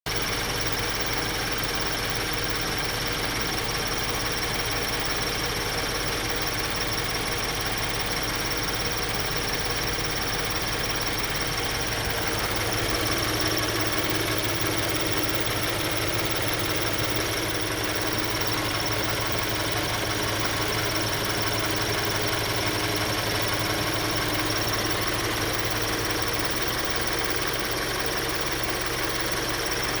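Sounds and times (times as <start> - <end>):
car engine idling: 0.1 - 30.0
engine chirping: 0.1 - 30.0.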